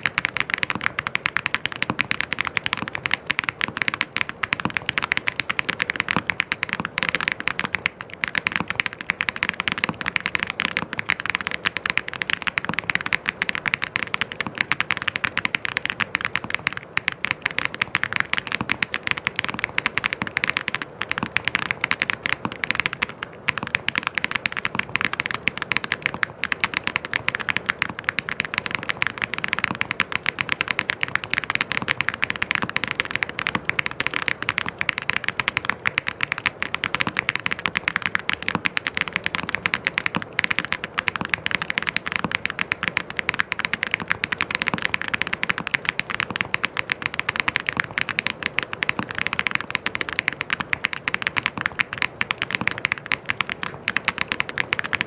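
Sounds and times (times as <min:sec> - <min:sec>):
typing on mechanical keyboard: 0:00.0 - 0:55.0.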